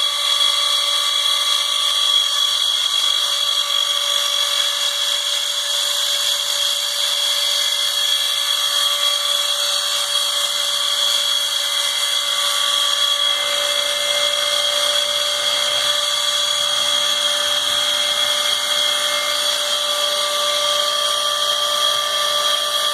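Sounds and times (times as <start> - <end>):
high-pitched machine whine: 0.0 - 22.9.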